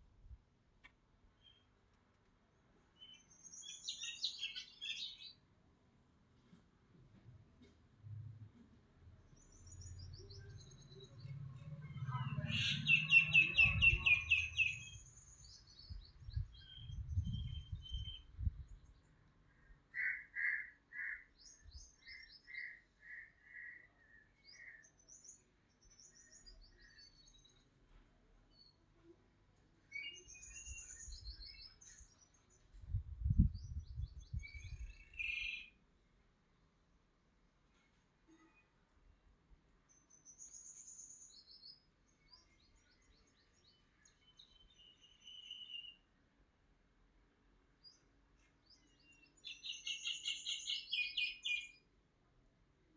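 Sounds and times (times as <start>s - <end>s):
small birds singing: 1.2s - 5.5s, 9.0s - 35.8s, 39.7s - 46.3s, 47.7s - 52.9s.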